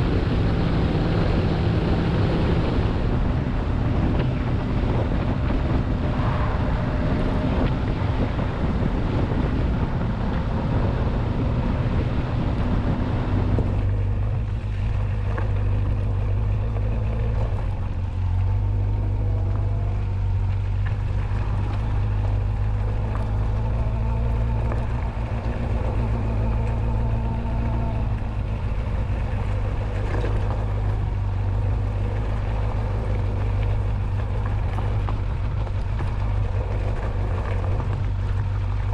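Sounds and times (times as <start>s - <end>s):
heavy wind rush: 0.0s - 38.9s
motorcycle engine running: 0.0s - 38.9s.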